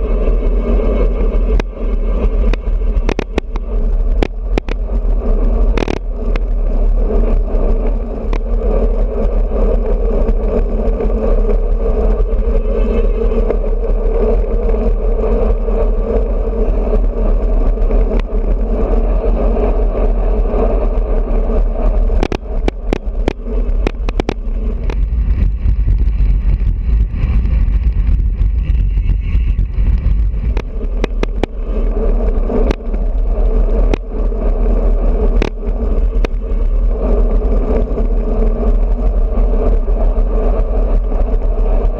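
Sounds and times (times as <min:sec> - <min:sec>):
road and tyre hum: 0:00.0 - 0:41.9
sharp clicks and rattles: 0:00.0 - 0:41.9
wind buffeting camera: 0:00.0 - 0:41.9.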